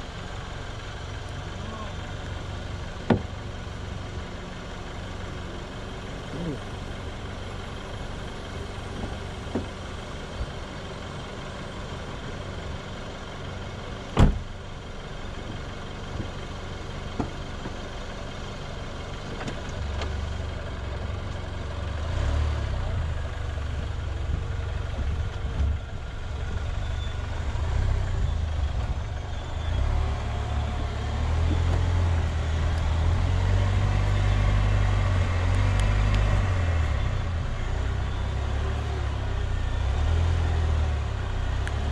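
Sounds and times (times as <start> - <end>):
engine and tyres rumbling: 0.0 - 41.9.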